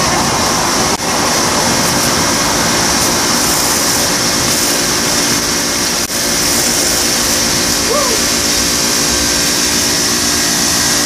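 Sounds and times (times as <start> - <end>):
high-pressure spray hissing: 0.0 - 11.0
pressure washer motor whining: 0.0 - 11.0.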